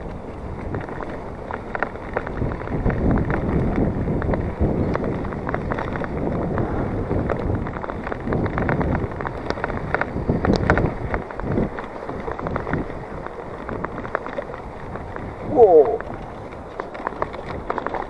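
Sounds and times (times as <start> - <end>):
bike rattling: 0.0 - 18.0
bike tyres rumbling: 0.0 - 18.0
wind buffeting microphone: 0.0 - 18.0.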